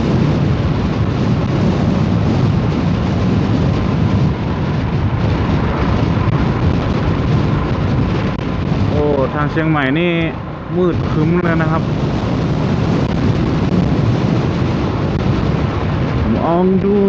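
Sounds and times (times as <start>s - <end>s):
low rumble: 0.0s - 17.0s
vehicle road noise: 0.0s - 17.0s
wind rushing: 0.0s - 17.0s.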